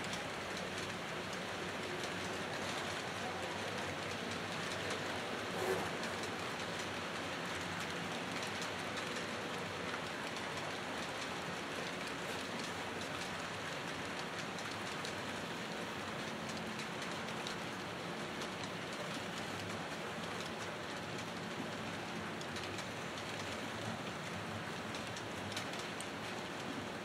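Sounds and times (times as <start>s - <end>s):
model train wheels and motor hiss: 0.0s - 27.0s.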